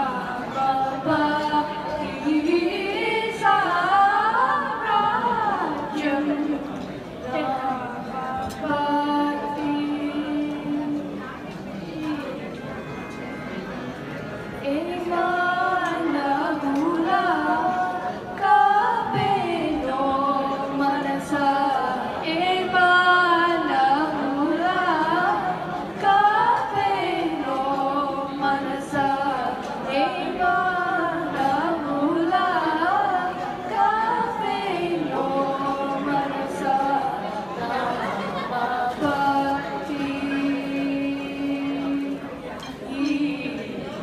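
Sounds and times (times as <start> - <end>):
girls singing into microphones: 0.0 - 12.9, 14.5 - 44.0.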